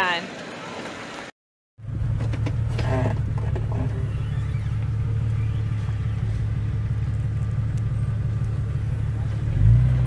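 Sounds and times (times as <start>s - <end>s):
car engine running at low revs: 1.8s - 10.0s.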